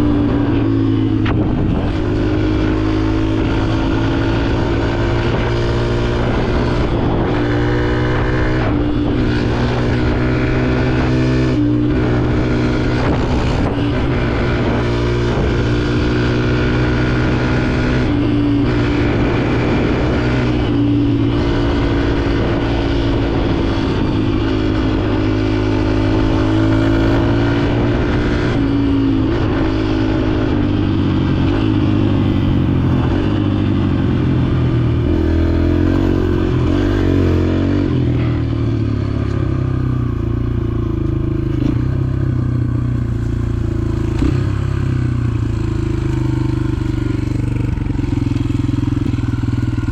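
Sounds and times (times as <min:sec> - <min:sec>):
dirt bike engine revving: 0:00.0 - 0:40.2.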